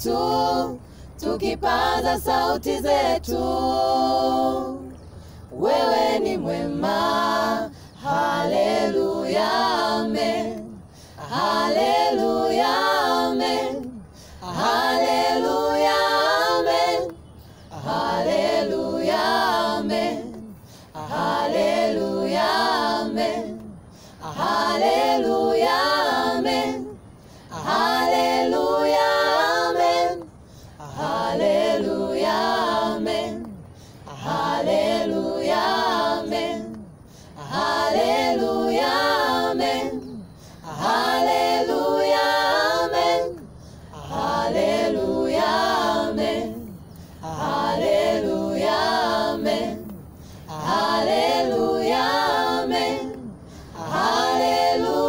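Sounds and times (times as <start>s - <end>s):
group singing a cappella: 0.0s - 55.0s.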